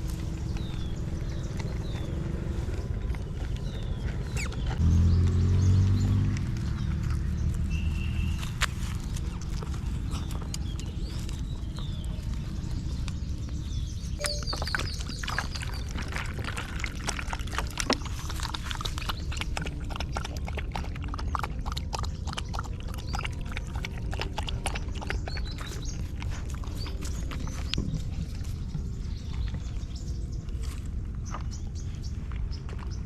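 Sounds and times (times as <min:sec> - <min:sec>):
dogs chewing food: 0:00.0 - 0:33.0
low rumble: 0:00.0 - 0:33.0.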